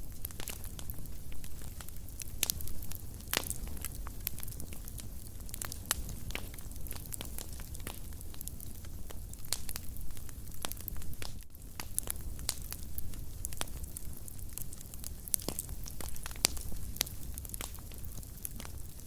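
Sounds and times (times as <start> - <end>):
low rumble of flame: 0.0 - 19.0
wood fire crackling: 0.0 - 19.0.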